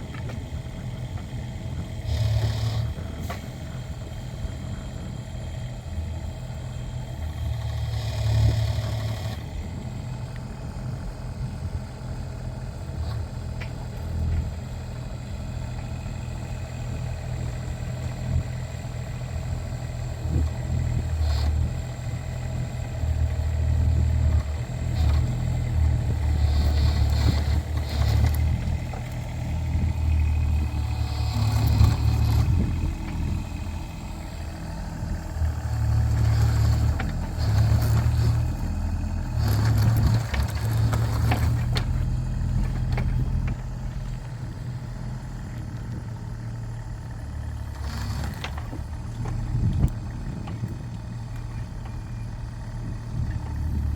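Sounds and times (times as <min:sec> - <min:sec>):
mini excavator diesel engine: 0:00.0 - 0:53.9.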